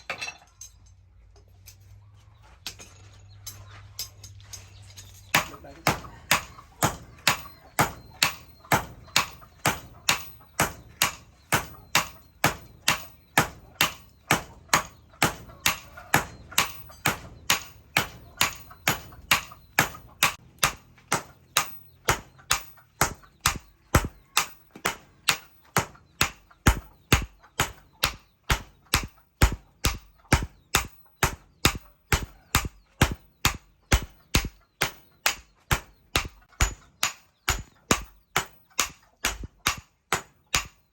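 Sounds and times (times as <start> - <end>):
hammer striking steel on anvil: 5.3 - 40.8.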